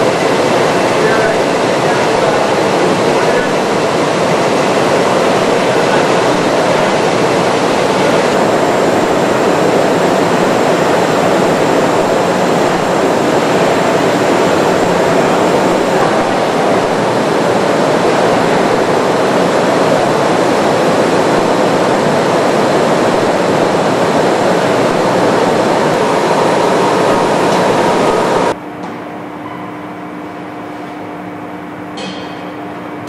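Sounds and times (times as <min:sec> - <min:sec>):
machinery rushing noise: 0:00.0 - 0:28.6.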